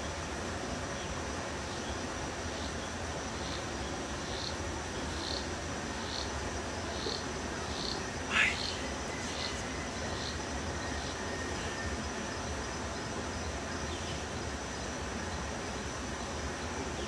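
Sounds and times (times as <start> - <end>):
faint high insect drone: 0.0 - 17.0
steady hiss and low rumble: 0.0 - 17.0.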